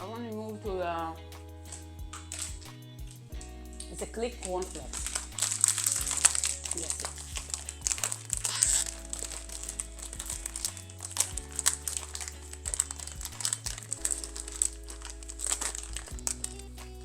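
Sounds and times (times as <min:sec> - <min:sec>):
background music with low notes: 0:00.0 - 0:17.0
plastic packaging crinkling: 0:01.7 - 0:02.7, 0:03.8 - 0:16.8.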